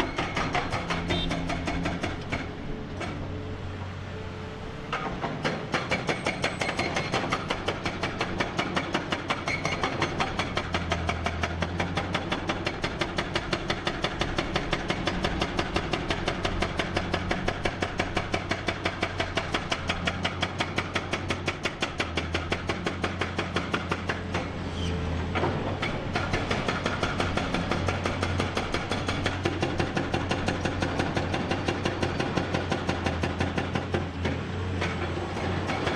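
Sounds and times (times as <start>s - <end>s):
excavator diesel engine clattering: 0.0s - 35.9s.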